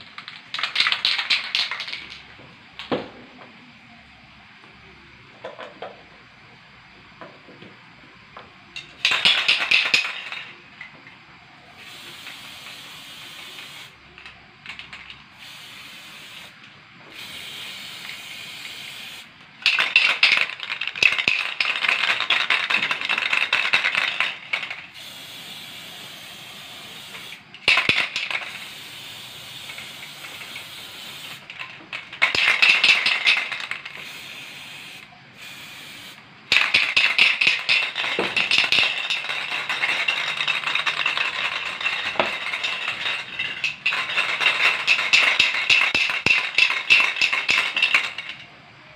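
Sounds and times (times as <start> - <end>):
spray paint can hissing: 0.0 - 2.2, 8.8 - 10.6, 11.7 - 48.4.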